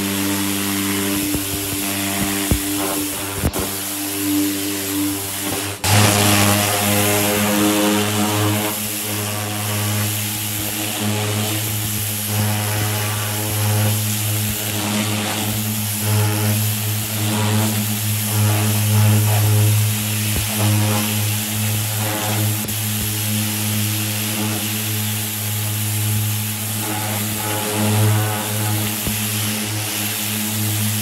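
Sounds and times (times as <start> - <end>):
pressure washer spray hiss: 0.0 - 31.0
washer motor and pump hum: 0.0 - 31.0.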